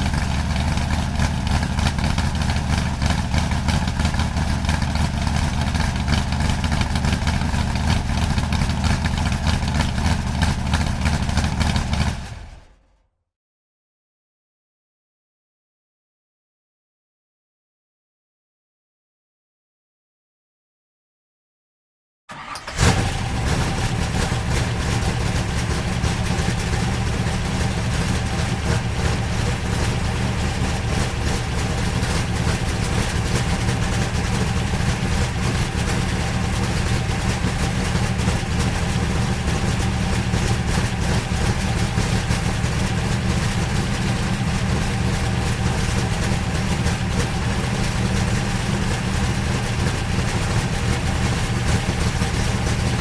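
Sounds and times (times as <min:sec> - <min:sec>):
vehicle engine idling: 0:00.0 - 0:13.0, 0:22.3 - 0:53.0.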